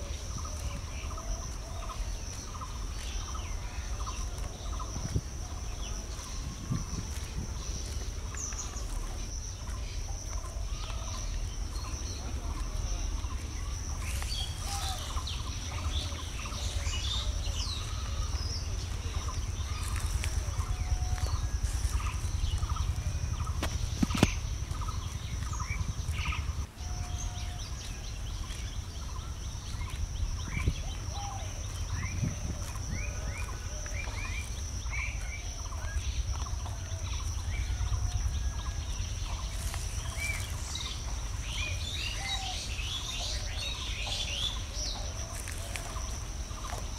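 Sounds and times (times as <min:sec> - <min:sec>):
birds chirping: 0:00.0 - 0:46.9
constant low rumble: 0:00.0 - 0:46.9.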